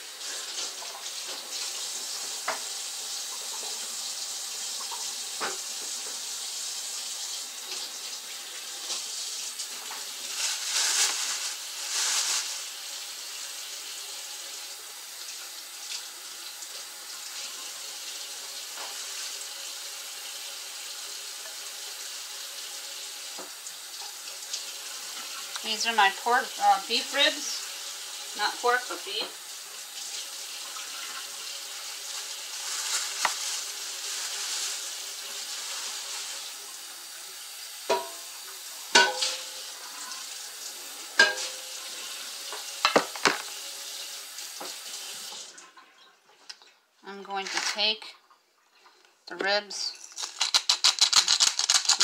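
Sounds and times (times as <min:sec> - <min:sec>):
faucet running into sink: 0:00.0 - 0:10.4, 0:12.6 - 0:46.6.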